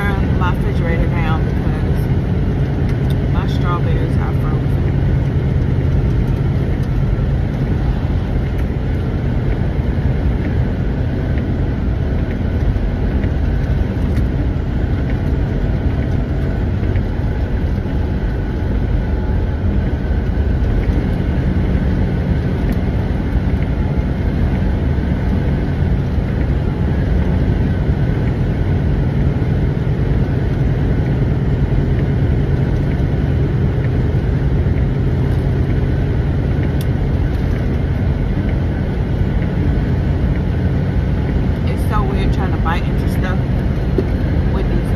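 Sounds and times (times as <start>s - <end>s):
diesel truck engine rumbling: 0.0s - 44.9s.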